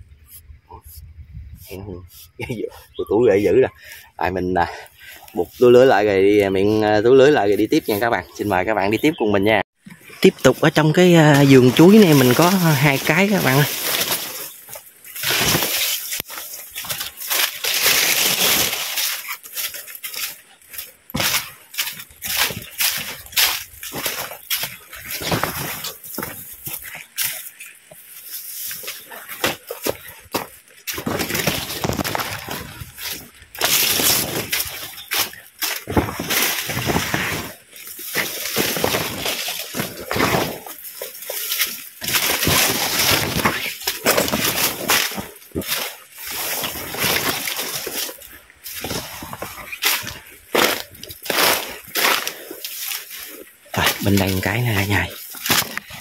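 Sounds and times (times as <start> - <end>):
footsteps crunching through dry leaves: 9.8 - 56.0.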